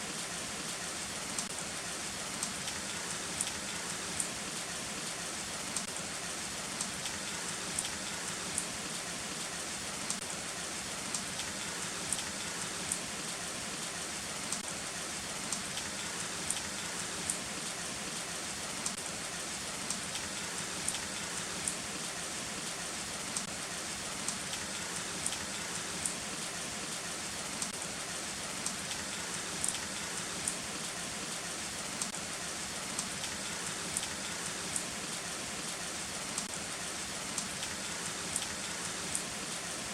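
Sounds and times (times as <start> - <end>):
heavy rain falling: 0.0 - 39.9
raindrops ticking close by: 0.1 - 39.9.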